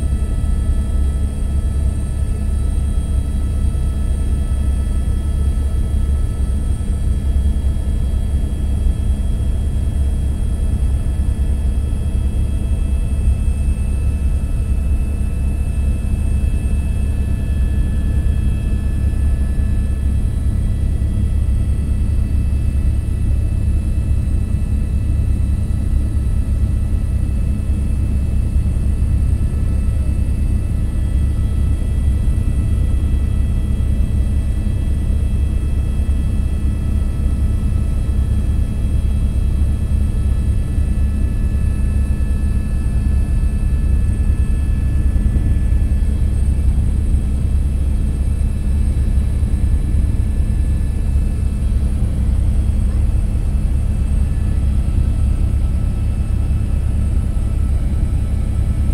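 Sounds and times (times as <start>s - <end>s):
aircraft engine rumble: 0.0s - 58.9s.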